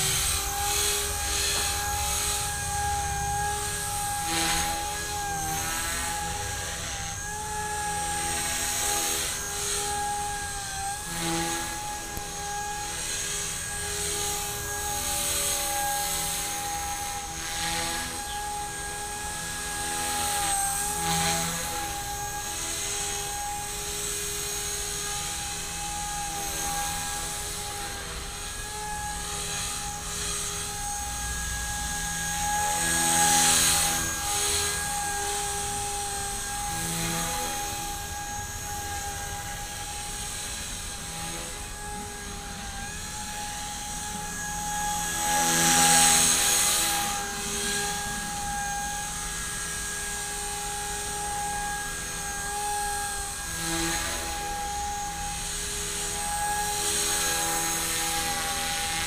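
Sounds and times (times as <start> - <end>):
rc helicopter whine: 0.0 - 59.0.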